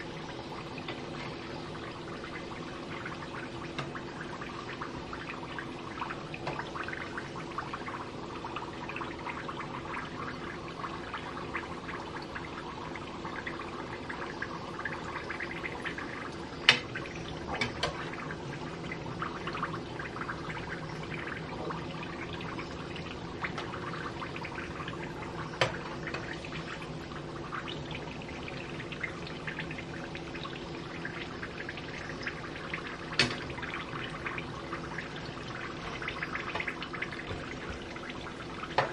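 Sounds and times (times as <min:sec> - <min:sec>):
oil sizzling while deep-frying: 0:00.0 - 0:38.9.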